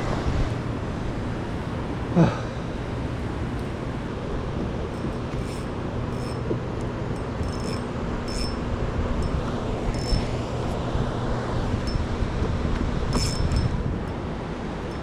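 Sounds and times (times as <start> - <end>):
wind noise on microphone: 0.0 - 2.0, 3.2 - 15.0
low steady hum: 0.0 - 15.0.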